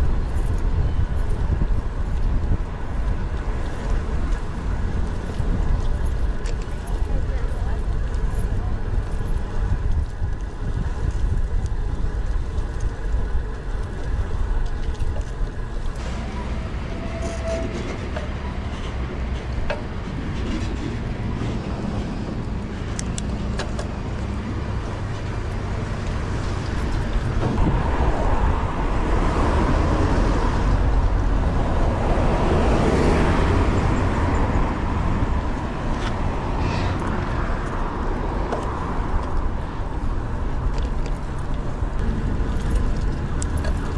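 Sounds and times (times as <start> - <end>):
traffic: 0.0 - 43.9
wind rumble: 0.0 - 43.9.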